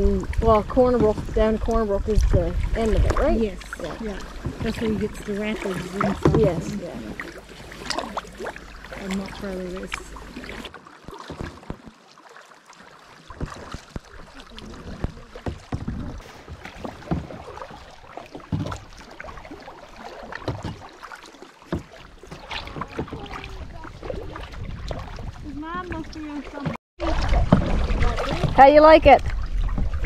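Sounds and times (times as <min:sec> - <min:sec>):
kayak paddle strokes in water: 0:00.0 - 0:30.0
water splashing against kayak hull: 0:00.0 - 0:30.0.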